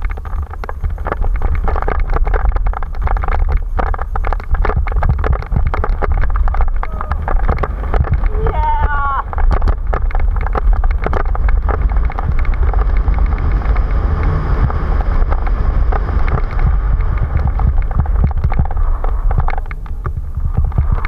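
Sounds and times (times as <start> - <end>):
bike rattling over bumps: 0.0 - 21.0
tyres on loose gravel: 0.0 - 21.0
wind buffeting microphone: 0.0 - 21.0.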